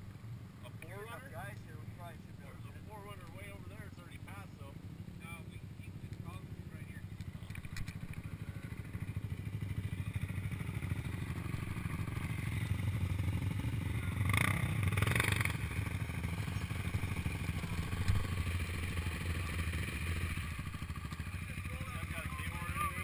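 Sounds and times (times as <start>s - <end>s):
quad riding past: 0.0s - 23.0s
quad engine idling: 0.6s - 23.0s.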